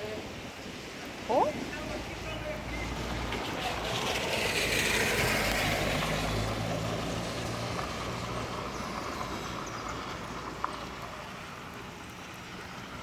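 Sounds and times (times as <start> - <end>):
tyres on wet street: 0.0 - 13.0
low engine hum: 1.3 - 13.0.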